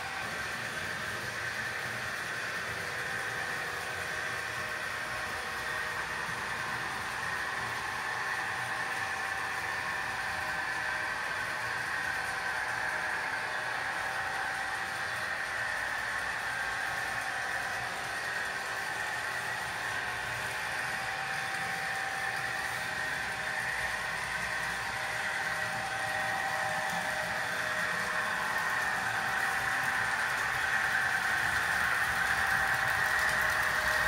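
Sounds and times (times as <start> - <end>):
mechanical whir with hum: 0.0 - 34.0.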